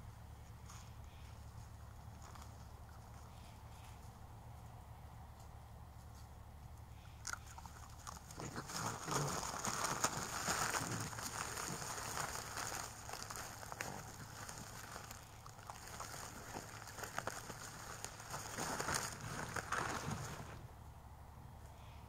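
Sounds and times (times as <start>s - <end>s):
crunching and crackling: 0.0s - 6.3s, 6.9s - 20.7s.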